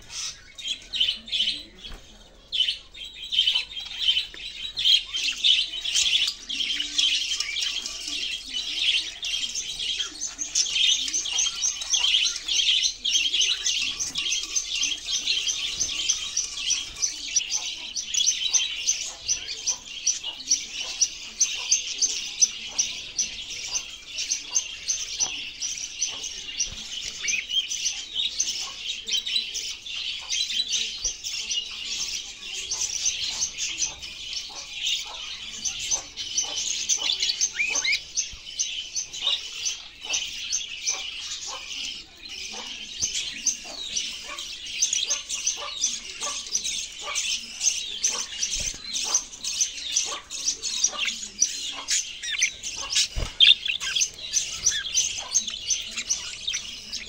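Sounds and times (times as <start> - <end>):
budgerigars chirping and warbling: 0.0 - 57.0.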